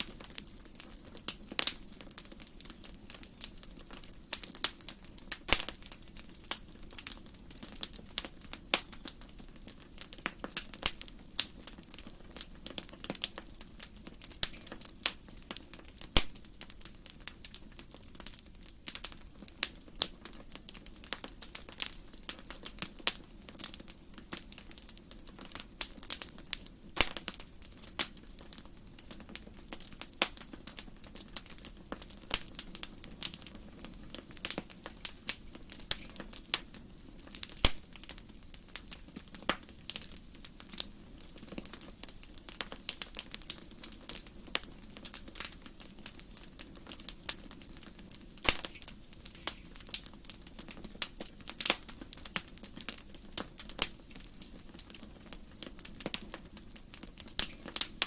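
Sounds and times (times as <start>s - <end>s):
low fire hiss: 0.0s - 58.0s
wood fire crackling and popping: 0.0s - 58.0s.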